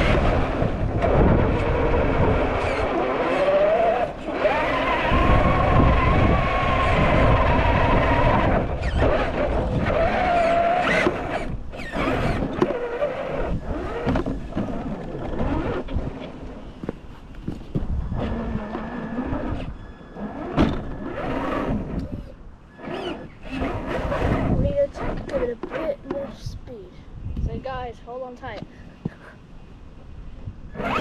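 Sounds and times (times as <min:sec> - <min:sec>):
electric motor whining: 0:00.0 - 0:16.9, 0:18.0 - 0:26.2, 0:30.7 - 0:31.0.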